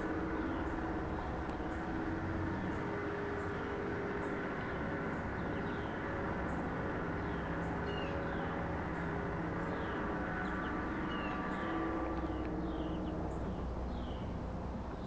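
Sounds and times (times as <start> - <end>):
low droning hum: 0.0 - 15.0
small birds chirping: 2.6 - 15.0.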